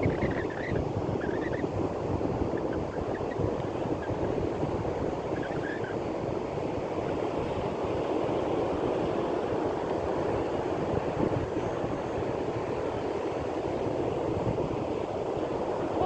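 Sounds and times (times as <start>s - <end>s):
ocean surf breaking: 0.0s - 16.0s
wind buffeting microphone: 0.0s - 16.0s.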